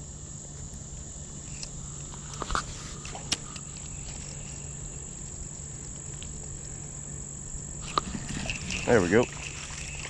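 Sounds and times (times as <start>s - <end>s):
high-pitched insect trill: 0.0s - 10.0s.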